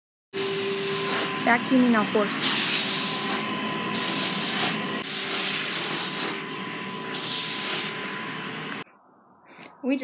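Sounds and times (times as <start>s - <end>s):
vacuum cleaner running: 0.4s - 8.8s.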